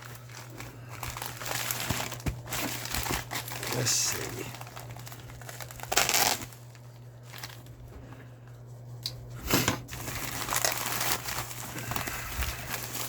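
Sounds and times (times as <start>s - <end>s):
loud packaging crackle: 0.0s - 7.8s, 9.5s - 13.0s
packaging crinkling and rustling: 0.0s - 7.9s, 9.5s - 13.0s.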